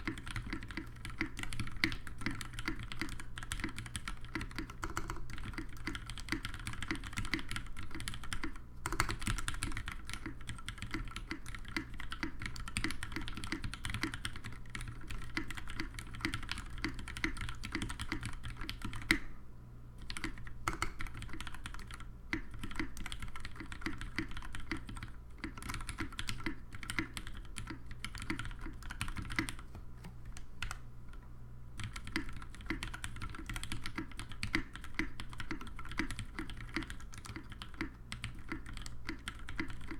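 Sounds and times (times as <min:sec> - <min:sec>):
mechanical keyboard typing: 0:00.0 - 0:19.3, 0:20.0 - 0:30.8, 0:31.8 - 0:39.9.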